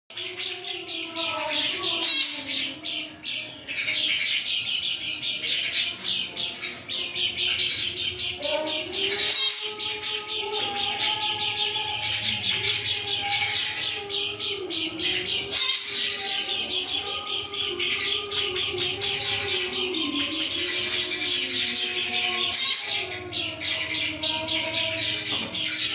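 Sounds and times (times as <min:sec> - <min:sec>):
songbird chirping and twittering: 0:00.1 - 0:25.9.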